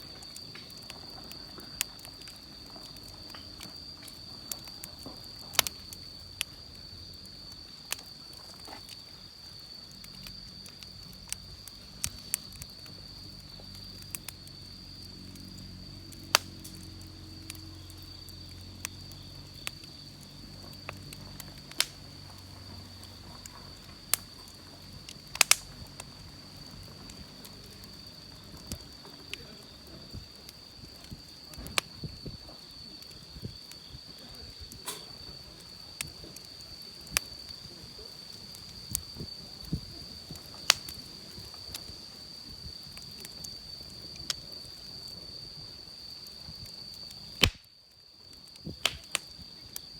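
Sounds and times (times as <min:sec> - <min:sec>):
campfire crackling: 0:00.0 - 0:49.9
soft steady hiss: 0:00.0 - 0:49.9.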